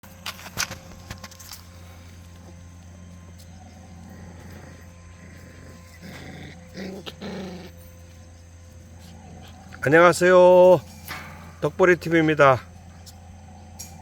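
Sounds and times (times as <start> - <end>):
puppies growling: 0.7 - 14.0.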